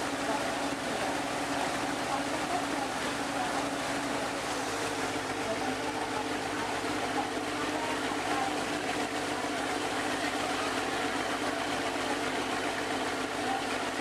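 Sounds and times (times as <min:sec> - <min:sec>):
boat engine droning: 0:00.0 - 0:14.0
water rushing past hull: 0:00.0 - 0:14.0.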